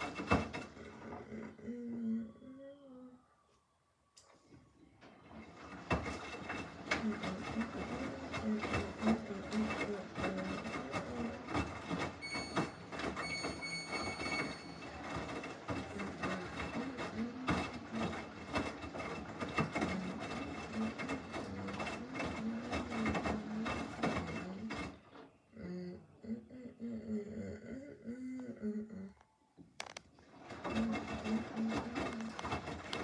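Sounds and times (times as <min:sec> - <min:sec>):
washing machine running: 0:00.0 - 0:02.3, 0:04.6 - 0:28.2, 0:29.8 - 0:33.0.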